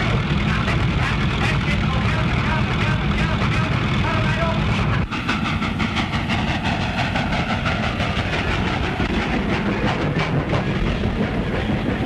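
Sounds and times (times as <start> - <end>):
loud mechanical clatter: 0.0 - 12.0.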